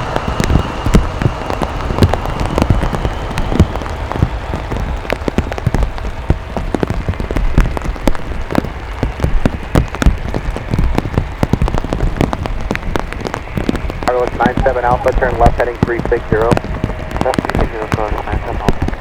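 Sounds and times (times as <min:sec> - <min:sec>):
heavy rain drops patter: 0:00.0 - 0:19.0
steady low rumble: 0:00.0 - 0:19.0.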